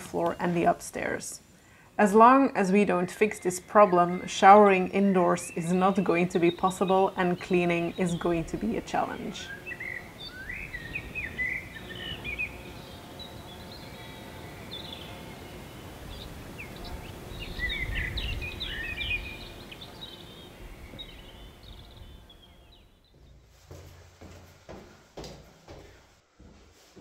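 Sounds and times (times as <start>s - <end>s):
songbirds chirping: 0.0s - 26.2s
outdoor background noise: 0.0s - 27.0s.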